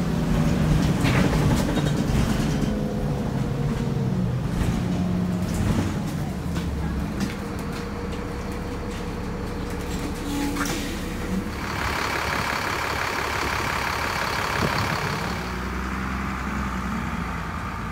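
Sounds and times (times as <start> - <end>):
bus engine drone: 0.0 - 17.9.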